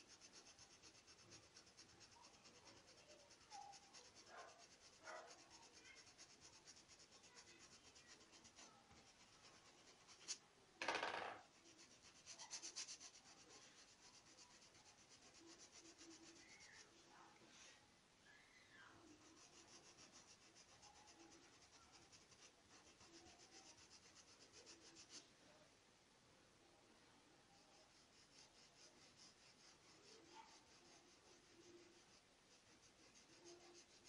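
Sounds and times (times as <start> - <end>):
brush scrape: 0.0 - 10.4, 11.4 - 17.8, 19.0 - 25.3, 27.7 - 34.0
paintbrush scratching fabric: 0.0 - 10.4, 11.0 - 17.7, 18.8 - 25.3, 27.5 - 34.0.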